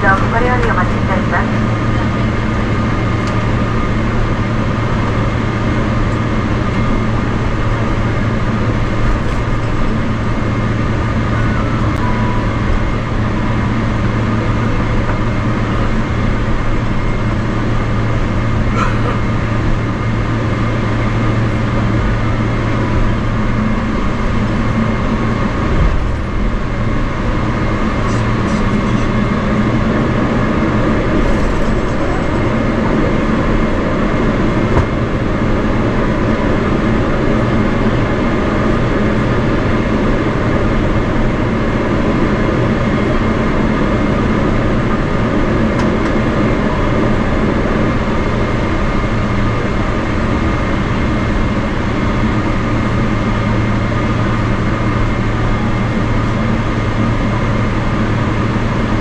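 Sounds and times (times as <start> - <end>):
jet engines at low thrust: 0.0 - 59.0
steady low hum: 0.0 - 59.0.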